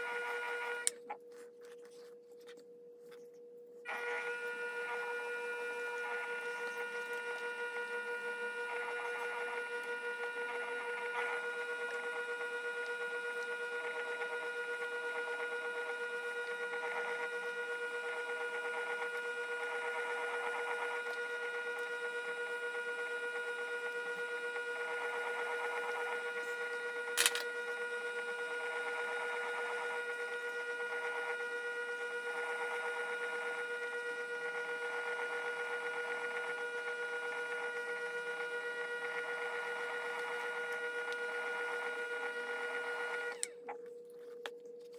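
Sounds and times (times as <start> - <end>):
pottery wheel motor whining: 0.0 - 44.9
trimming tool shaving clay: 4.0 - 44.9.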